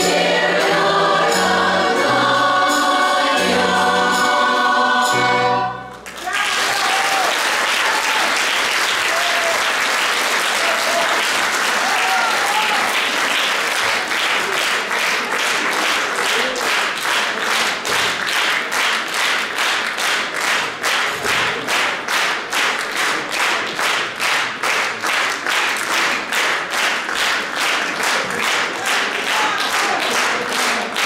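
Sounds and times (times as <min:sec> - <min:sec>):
audience clapping in unison: 0:05.9 - 0:31.0.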